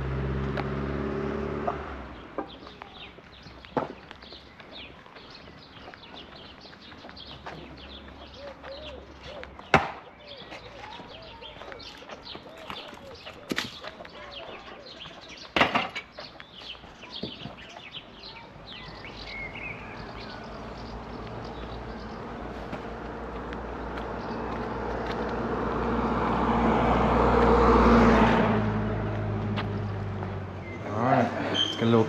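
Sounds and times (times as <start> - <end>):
small birds chirping: 1.9 - 25.9, 29.0 - 32.0.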